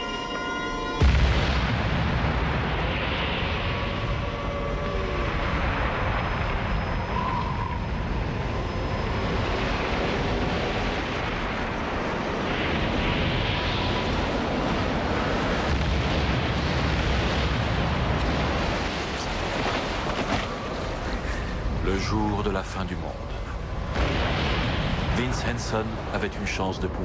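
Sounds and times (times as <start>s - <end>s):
huge explosion roar: 1.0s - 27.0s.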